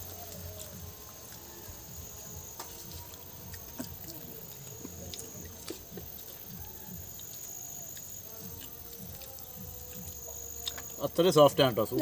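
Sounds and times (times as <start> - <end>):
person chewing: 0.0 - 11.0
high insect whine: 0.0 - 12.0.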